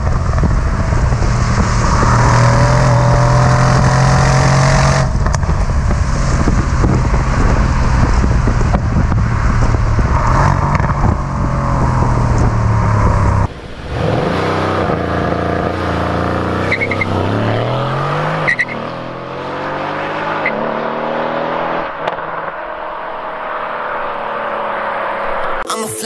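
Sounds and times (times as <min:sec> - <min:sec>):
car engine accelerating: 0:00.0 - 0:25.6.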